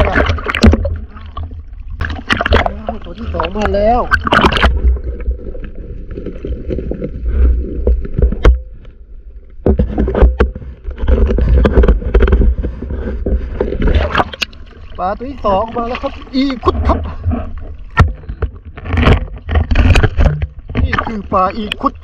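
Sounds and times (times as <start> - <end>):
sea water sloshing: 0.0 - 22.0.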